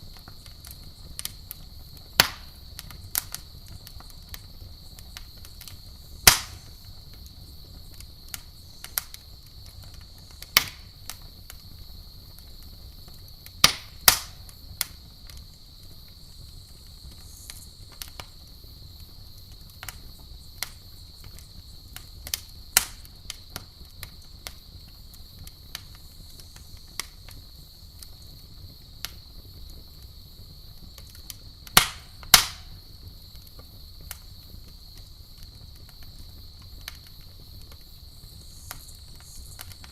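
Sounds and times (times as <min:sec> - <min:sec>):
campfire crackling and popping: 0:00.0 - 0:39.9
high insect trill: 0:00.1 - 0:39.9.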